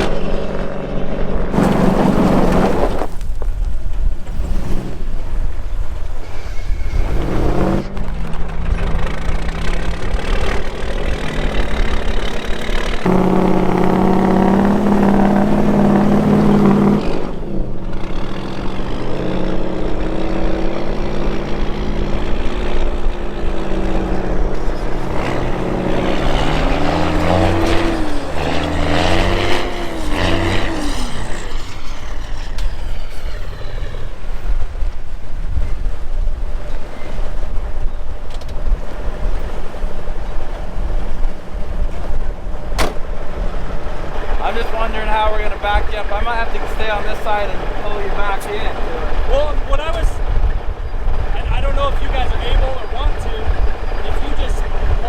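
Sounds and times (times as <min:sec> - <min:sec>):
truck engine revving: 0:00.0 - 0:03.4, 0:04.1 - 0:35.4, 0:38.6 - 0:55.0
wind buffeting microphone: 0:00.0 - 0:55.0.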